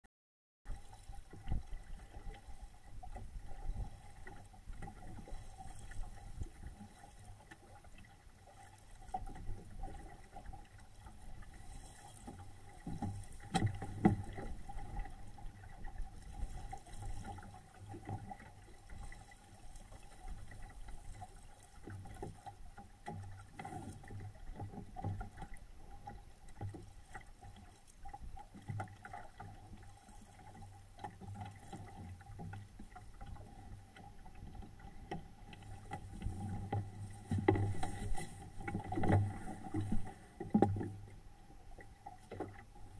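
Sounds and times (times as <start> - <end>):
water lapping against boat hull: 0.7 - 42.9.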